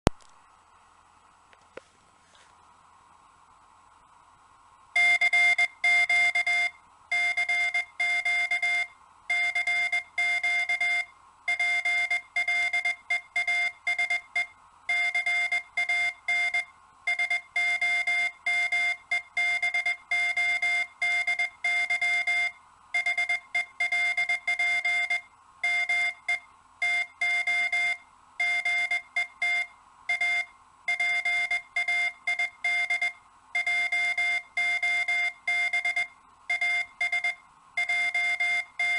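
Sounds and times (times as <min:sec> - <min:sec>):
morse code tone: 0:05.0 - 0:38.9.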